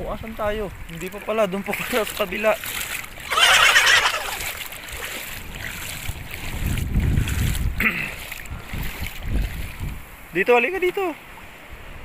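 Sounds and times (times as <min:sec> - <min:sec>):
wind buffeting microphone: 0:00.0 - 0:10.4
person wading through water: 0:00.2 - 0:11.7.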